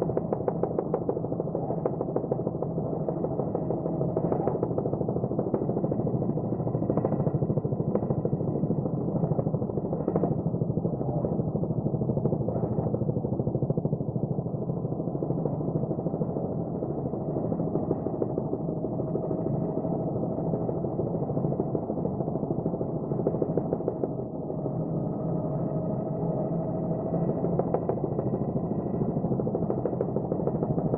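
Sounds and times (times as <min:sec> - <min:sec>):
helicopter engine and rotor: 0:00.0 - 0:30.9
steady whine: 0:00.0 - 0:30.9.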